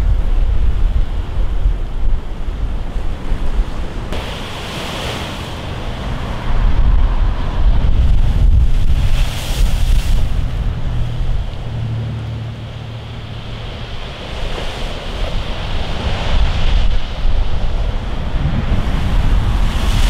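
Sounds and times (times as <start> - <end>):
wind buffeting microphone: 0.0 - 20.0
surf crashing against sea wall: 3.0 - 20.0.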